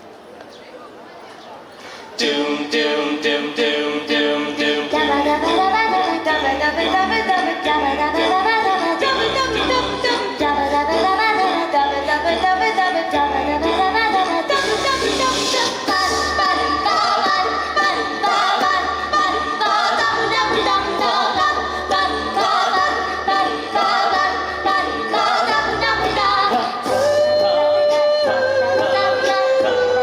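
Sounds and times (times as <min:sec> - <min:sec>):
choir singing a cappella: 0:02.2 - 0:30.0.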